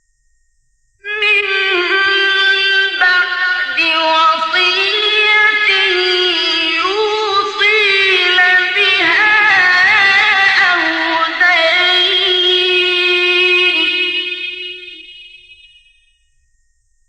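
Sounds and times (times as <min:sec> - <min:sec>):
man reciting melodically: 0:01.1 - 0:15.5.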